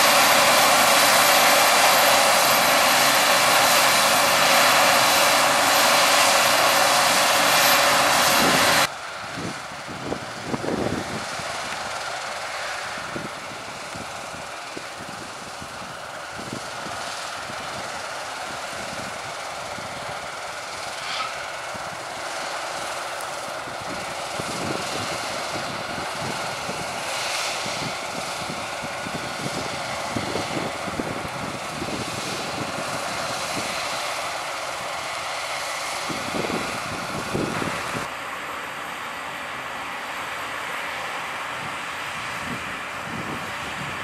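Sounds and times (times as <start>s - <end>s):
farm machinery drone: 0.0s - 44.0s.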